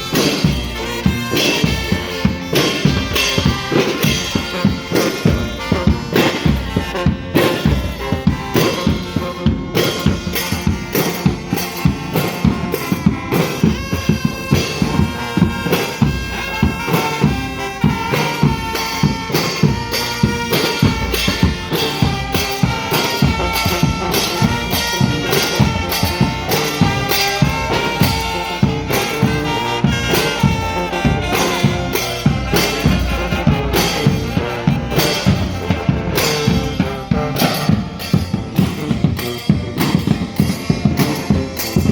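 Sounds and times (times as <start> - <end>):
brass band playing: 0.0 - 41.9
drums keeping a steady beat: 0.0 - 41.9.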